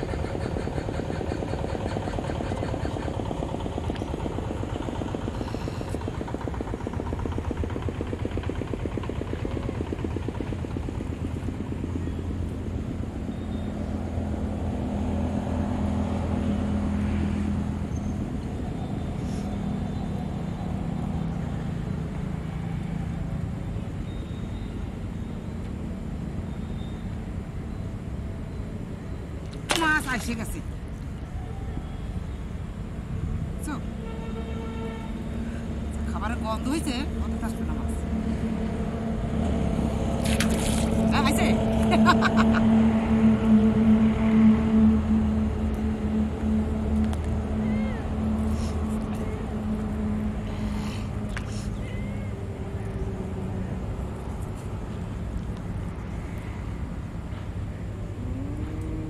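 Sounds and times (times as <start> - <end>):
motor engine running: 0.0 - 26.6, 31.9 - 59.0.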